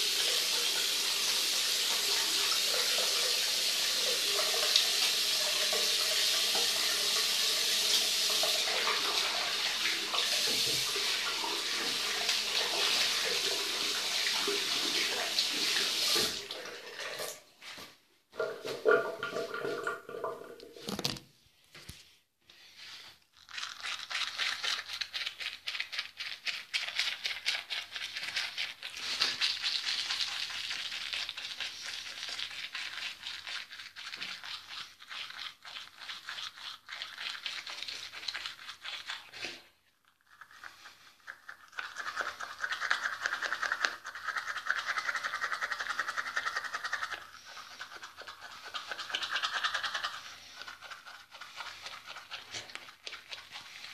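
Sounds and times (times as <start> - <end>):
toothbrush scrubbing teeth: 0.0 - 17.3, 22.6 - 53.9.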